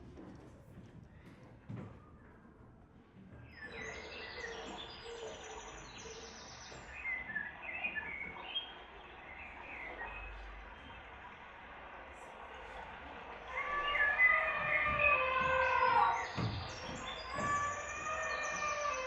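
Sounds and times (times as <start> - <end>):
steady background noise: 0.0 - 19.0
birds chirping and trilling: 3.3 - 19.0.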